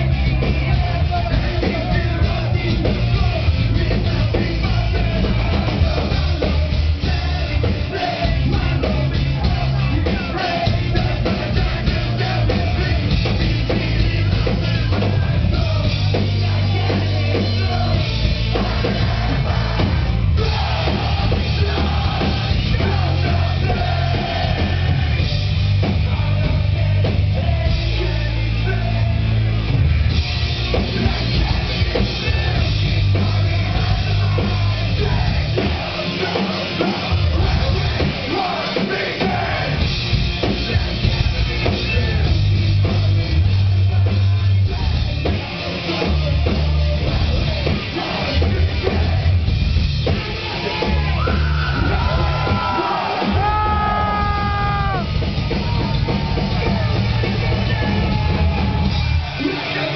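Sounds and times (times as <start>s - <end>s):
sung and shouted vocals: 0.0s - 29.4s, 30.7s - 59.9s
heavy drums: 0.0s - 59.9s
metal band playing: 0.0s - 59.9s.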